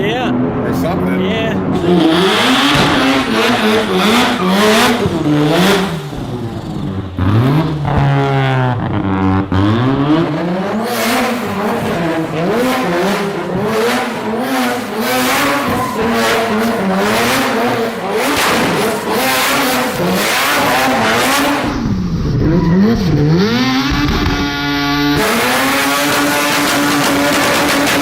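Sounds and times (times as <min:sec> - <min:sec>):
rotary car engine revving: 0:00.0 - 0:28.0.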